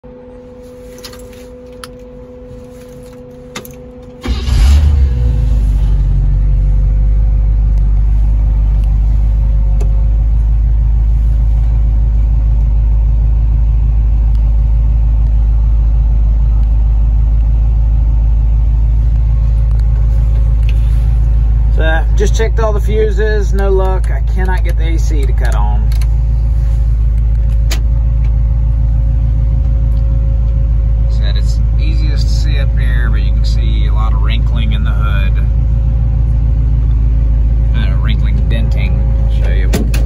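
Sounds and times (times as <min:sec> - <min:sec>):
car engine starting and idling: 0:00.1 - 0:40.0.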